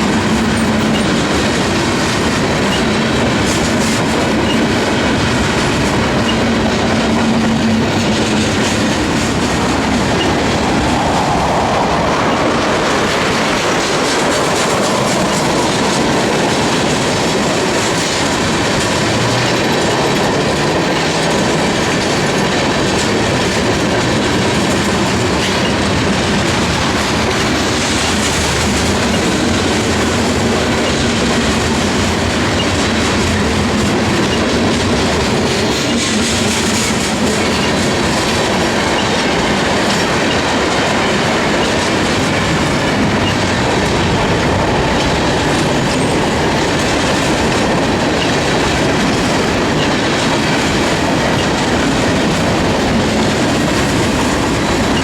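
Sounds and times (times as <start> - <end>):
freight train rumbling past: 0.0 - 55.0
wheels clicking over rail joints: 0.0 - 55.0.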